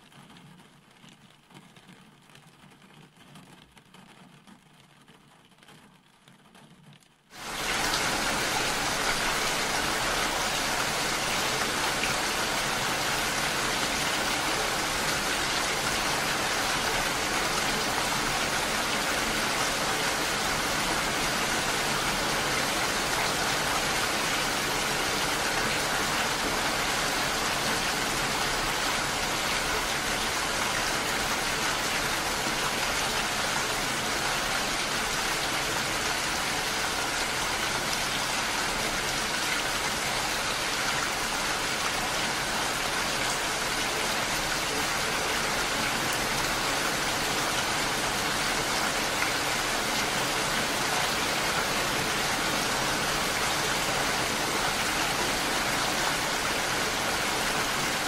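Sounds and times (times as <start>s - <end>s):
rain falling on water and sand: 0.0s - 58.0s.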